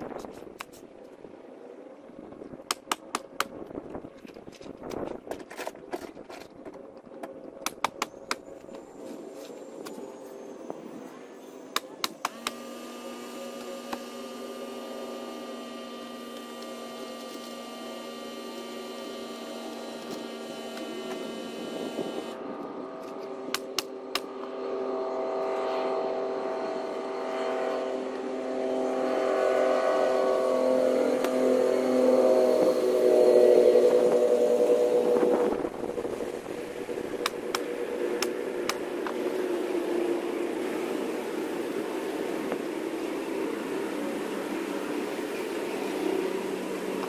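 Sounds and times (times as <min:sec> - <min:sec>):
motor hum: 0:00.0 - 0:47.0.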